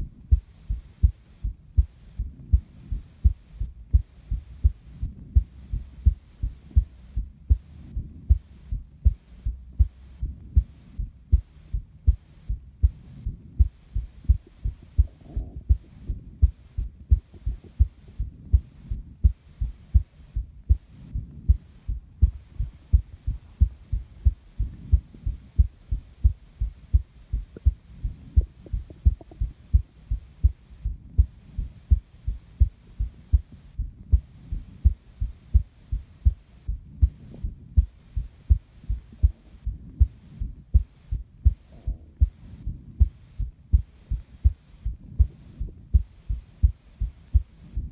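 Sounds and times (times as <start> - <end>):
heartbeat thuds: 0.0 - 47.9
soft breathing: 0.0 - 47.9.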